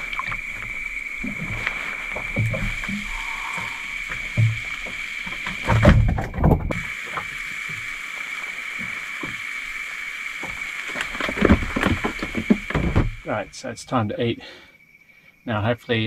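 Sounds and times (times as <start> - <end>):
steady high-pitched hiss: 0.0 - 16.0.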